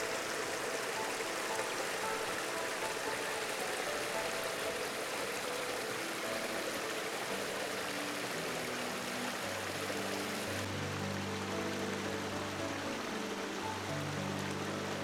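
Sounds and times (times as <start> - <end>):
brook splashing over rocks: 0.0 - 15.0
soft background music: 0.0 - 15.0.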